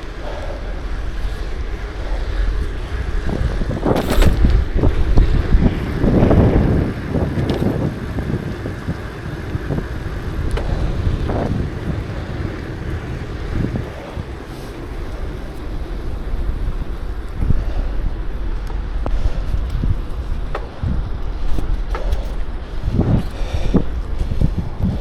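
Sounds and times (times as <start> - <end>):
low rumble from bicycle ride: 0.0 - 25.0
wind noise on microphone: 0.0 - 25.0.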